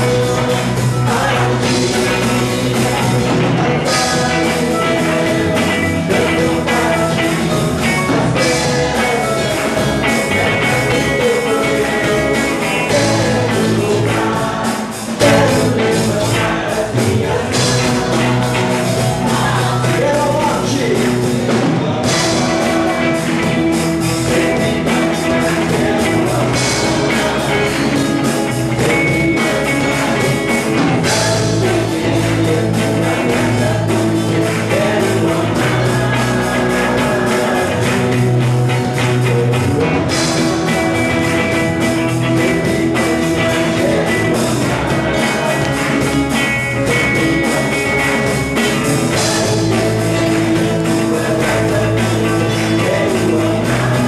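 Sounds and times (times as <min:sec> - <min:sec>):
drum kit: 0:00.0 - 0:54.0
guitar: 0:00.0 - 0:54.0
worship band playing: 0:00.0 - 0:54.0.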